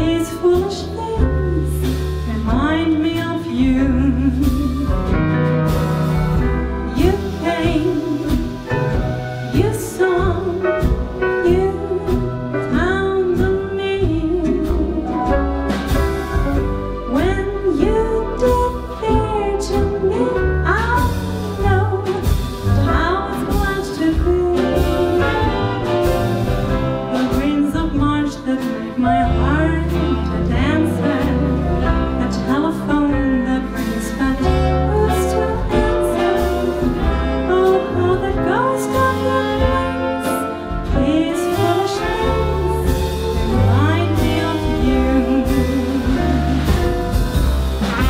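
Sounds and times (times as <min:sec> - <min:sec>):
swing band playing: 0:00.0 - 0:48.0
woman singing jazz ballad: 0:00.0 - 0:48.0.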